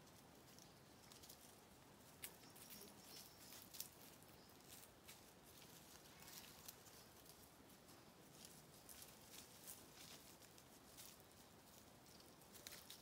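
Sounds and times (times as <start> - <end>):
small animals rustling in grass: 0.0 - 13.0.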